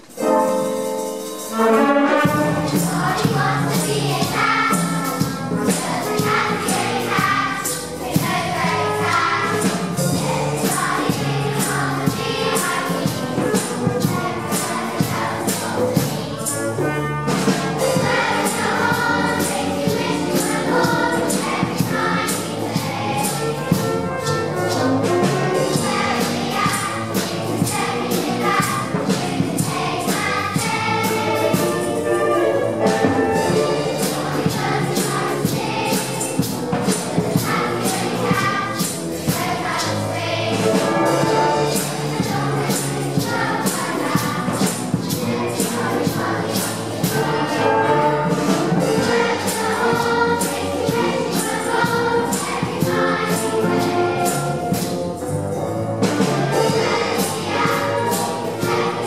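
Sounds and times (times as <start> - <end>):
children's choir singing: 0.0 - 59.0
cymbals keeping a beat: 0.0 - 59.0
school band playing: 0.0 - 59.0.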